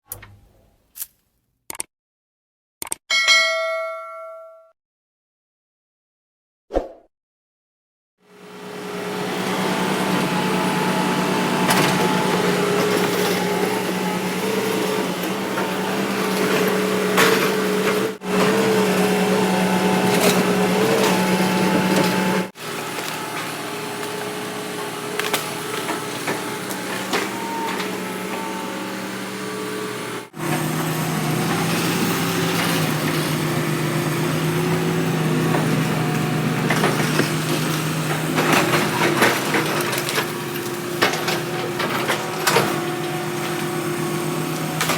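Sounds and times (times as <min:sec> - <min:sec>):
excavator diesel engine running: 0:08.3 - 0:44.9.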